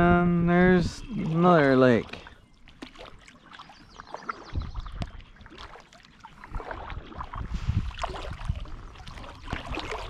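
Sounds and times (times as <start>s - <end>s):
water splashes and drips: 0.9s - 10.0s
paddle strokes in water: 1.0s - 10.0s.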